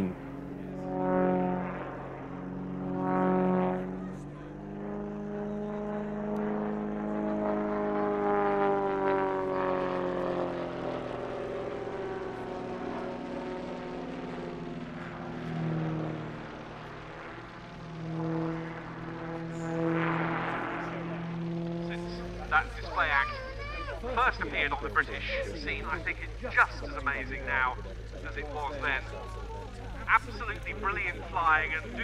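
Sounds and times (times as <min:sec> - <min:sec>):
propeller plane engine: 0:00.0 - 0:32.0.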